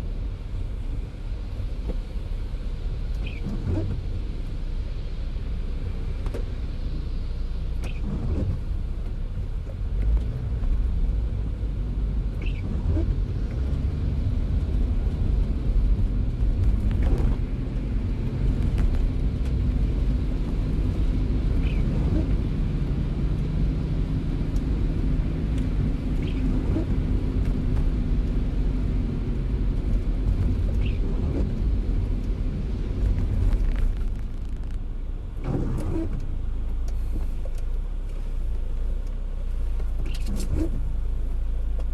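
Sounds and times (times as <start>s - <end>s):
car road and engine rumble: 0.0s - 41.9s
faint rain wash: 0.0s - 41.9s.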